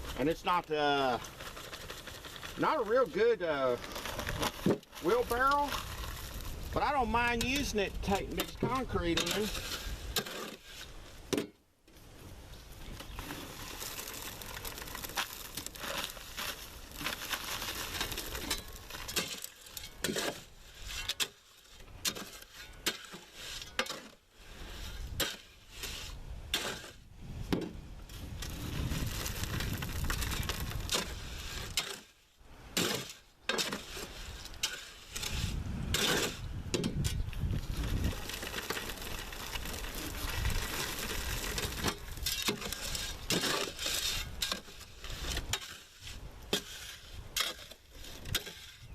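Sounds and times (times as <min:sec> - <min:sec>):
tool scraping wet concrete: 0:00.0 - 0:11.2, 0:12.8 - 0:27.1, 0:28.1 - 0:48.9.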